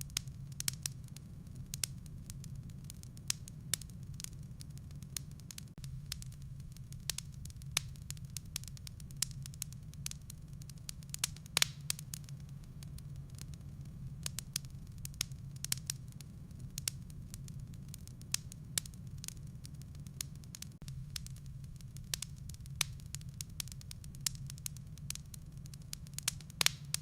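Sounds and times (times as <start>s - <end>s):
low fire rumble: 0.0s - 27.0s
wood fire crackling and popping: 0.0s - 27.0s.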